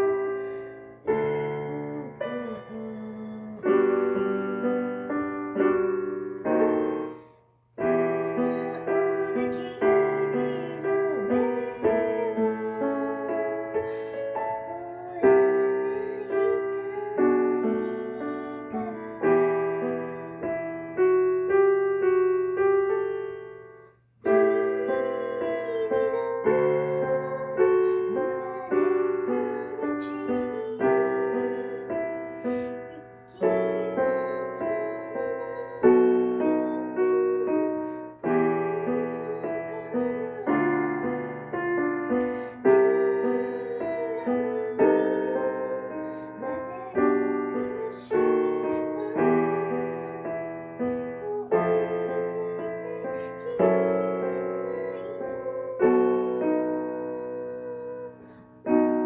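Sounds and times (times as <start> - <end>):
solo piano melody: 0.0 - 59.0.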